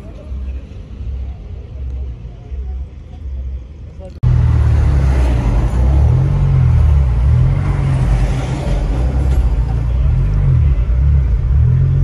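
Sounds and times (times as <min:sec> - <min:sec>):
car engine drone in cabin: 0:00.0 - 0:12.0.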